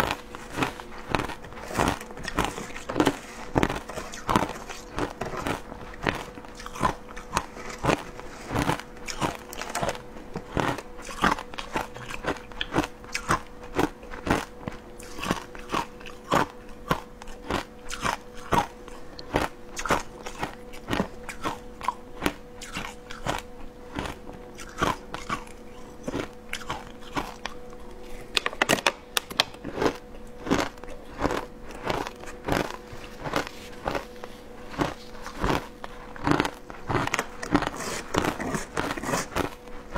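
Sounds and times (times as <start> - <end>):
crunching shaved ice in mouth: 0.0 - 39.9.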